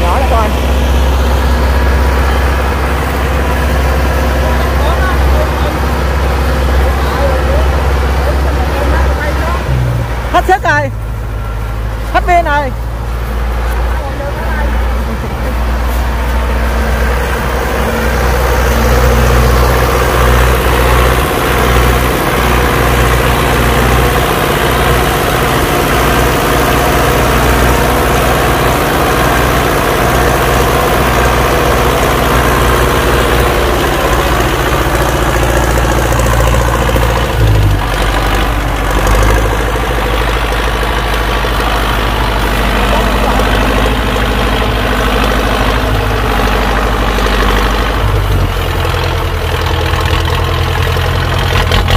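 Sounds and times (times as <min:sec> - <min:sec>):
diesel tractor engine running: 0:00.0 - 0:51.9.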